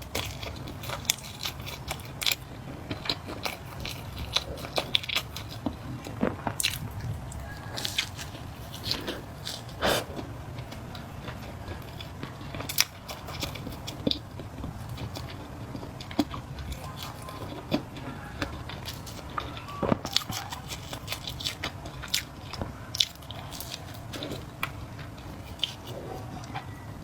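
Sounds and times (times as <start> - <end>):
chewing noodles: 0.0 - 27.0.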